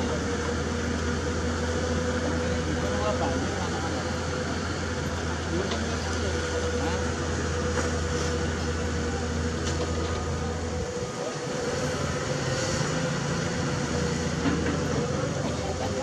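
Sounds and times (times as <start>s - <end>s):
excavator diesel engine: 0.0s - 16.0s
hydraulic whine: 0.0s - 16.0s.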